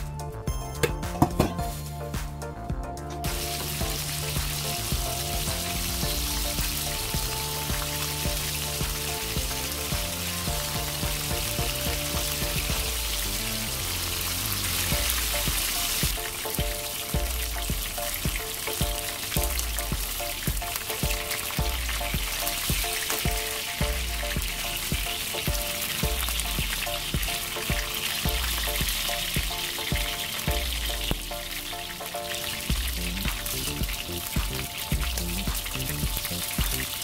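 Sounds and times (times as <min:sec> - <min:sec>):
pork frying in oil sizzling: 0:03.2 - 0:37.0.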